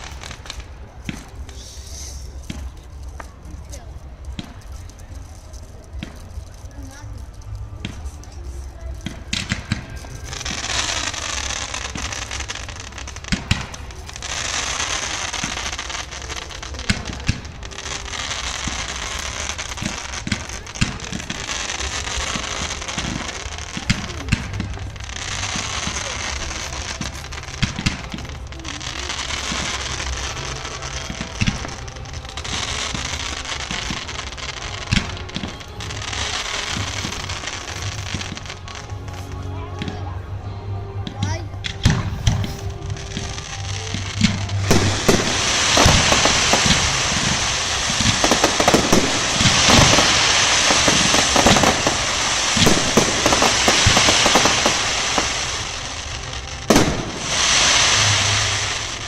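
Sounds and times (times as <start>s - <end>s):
fireworks bangs: 0.0s - 40.1s, 41.6s - 59.0s
fireworks crackling and hissing: 0.0s - 59.0s.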